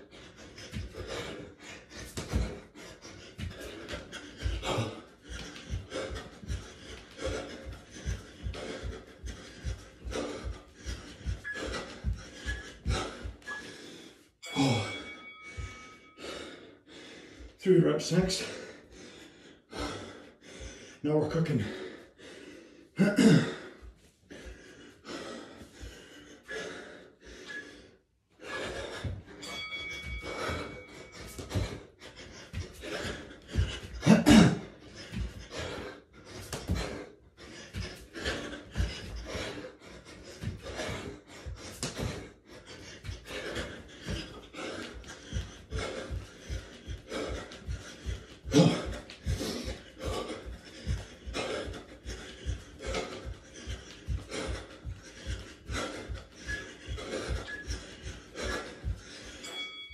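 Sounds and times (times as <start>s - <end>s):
man panting: 0.0s - 59.9s.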